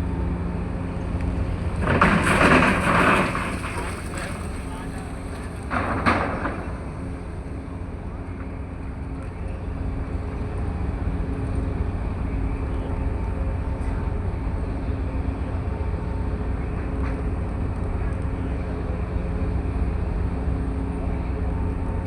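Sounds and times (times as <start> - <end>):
ship engine rumbling: 0.1 - 22.0.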